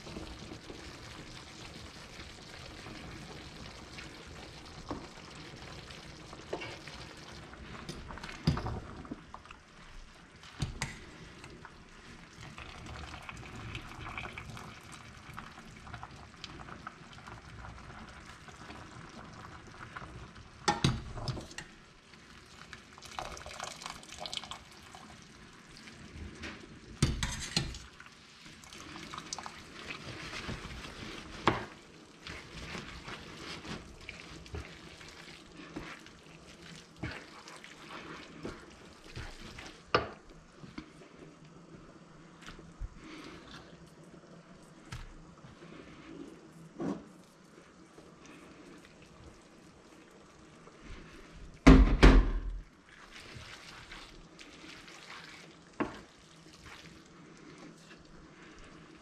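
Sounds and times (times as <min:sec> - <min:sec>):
wet squelching and stirring: 0:00.0 - 0:51.7, 0:52.5 - 0:59.0.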